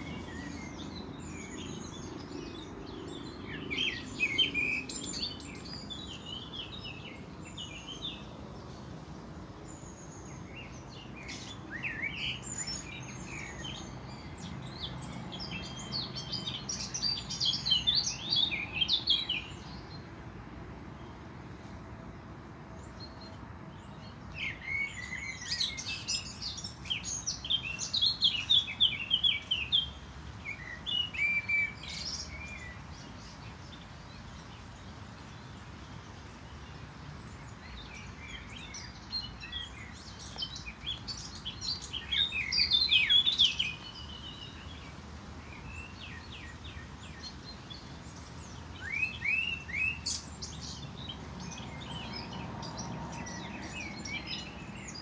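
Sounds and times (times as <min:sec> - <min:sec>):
songbirds chirping and singing: 0:00.0 - 0:55.0
steady background noise: 0:00.0 - 0:55.0.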